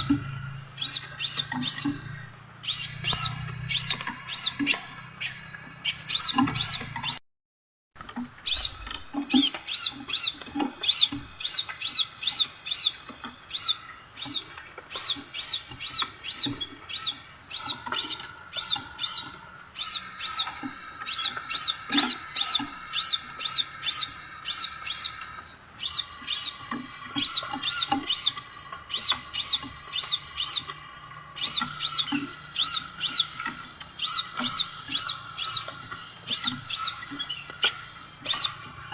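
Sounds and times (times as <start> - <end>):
steady low hum: 0.0 - 7.2, 8.1 - 38.9.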